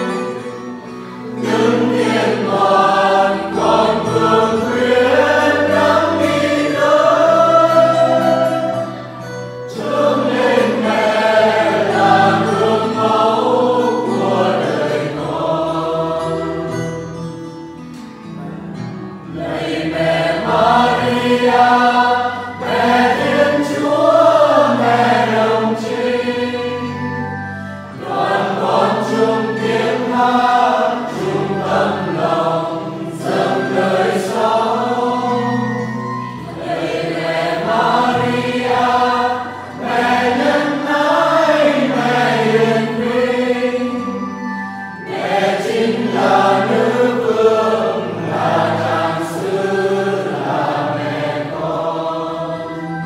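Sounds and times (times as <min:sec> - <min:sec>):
mixed choir singing a hymn: 0:00.0 - 0:17.2, 0:19.2 - 0:53.0.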